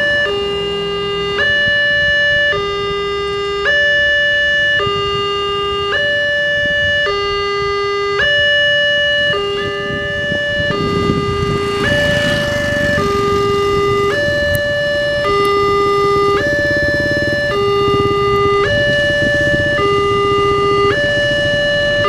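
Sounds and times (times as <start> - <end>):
motorcycle engines running: 0.0 - 22.0
two-tone crossing alarm: 0.0 - 22.0.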